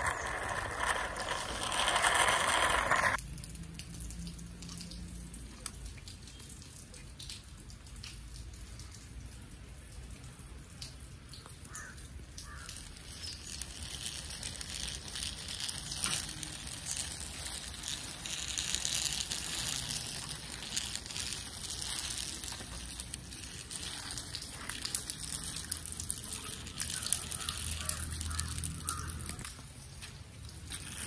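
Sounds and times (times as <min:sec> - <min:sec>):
light rain falling: 0:00.0 - 0:31.0
water drips ticking: 0:03.2 - 0:30.8.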